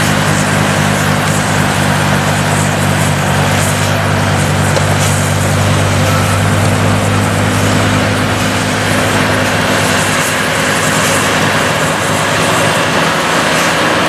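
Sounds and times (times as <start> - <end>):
snow thrown hissing: 0.0 - 14.0
tractor engine running: 0.0 - 14.0.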